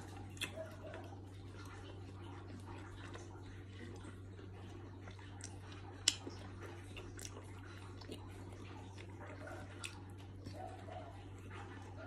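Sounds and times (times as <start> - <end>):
person chewing with mouth clicks: 0.0 - 12.0
steady low hum: 0.0 - 12.0.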